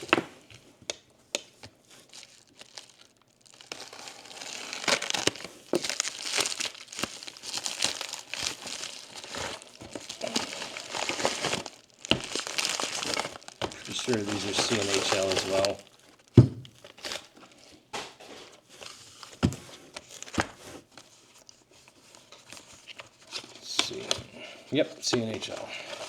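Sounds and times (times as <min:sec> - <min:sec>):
plastic packaging crinkling: 0:00.0 - 0:17.9, 0:18.5 - 0:26.0.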